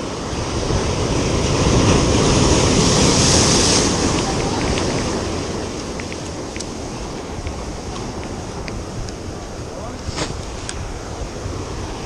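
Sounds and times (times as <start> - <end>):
waves crashing on rocky shore: 0.0 - 12.0.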